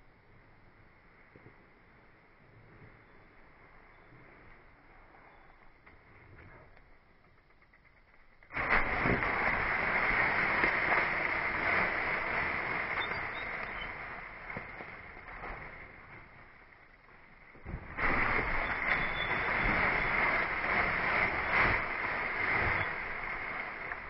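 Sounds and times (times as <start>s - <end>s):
bikes rolling through dry leaves: 1.0s - 24.0s.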